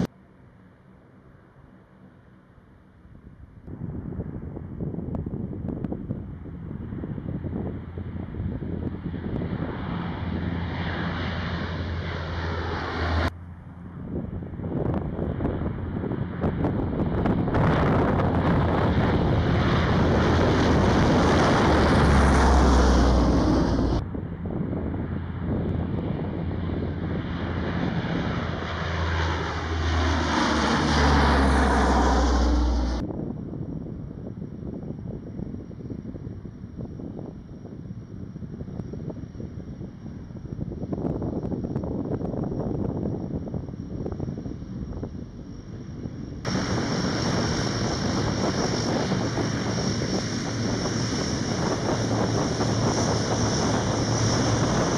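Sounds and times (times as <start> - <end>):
turboprop aircraft droning overhead: 0.0 - 54.9.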